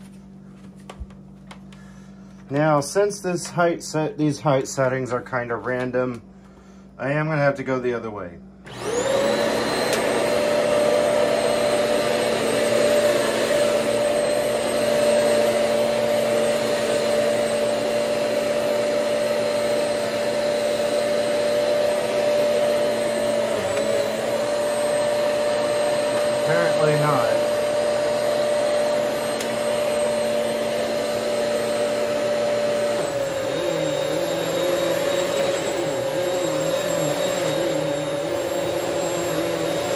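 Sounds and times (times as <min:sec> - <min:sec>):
vacuum cleaner running: 0:00.0 - 0:06.2, 0:07.0 - 0:39.9.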